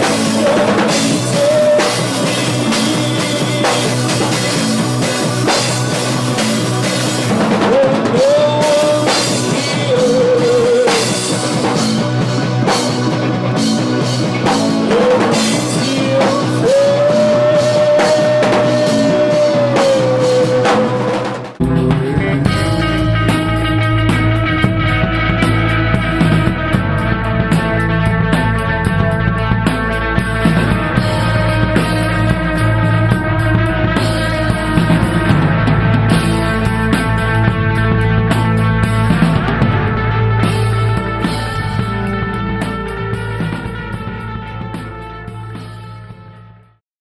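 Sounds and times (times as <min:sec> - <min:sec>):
drum kit: 0:00.0 - 0:46.8
gothic rock band playing: 0:00.0 - 0:46.8.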